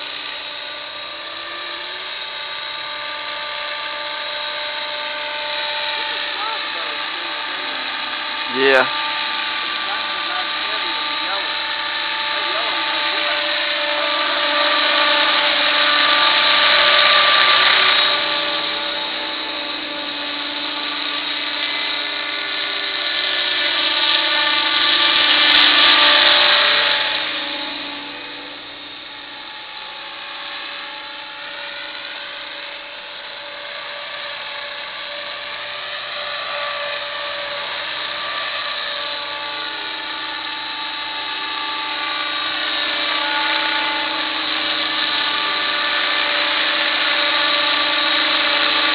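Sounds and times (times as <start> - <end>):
rc helicopter motor whine: 0.0 - 48.9.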